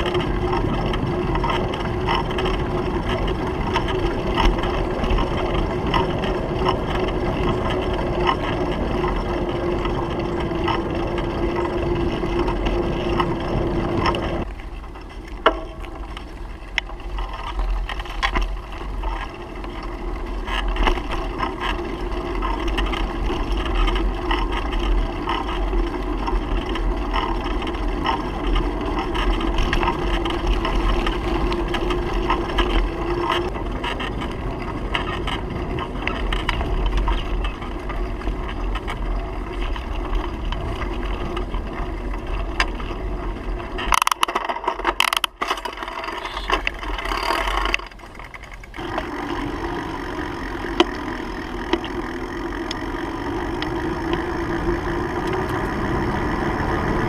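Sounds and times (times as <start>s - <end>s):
small rattling clicks: 0.0s - 57.0s
wind rumbling on microphone: 0.0s - 57.0s.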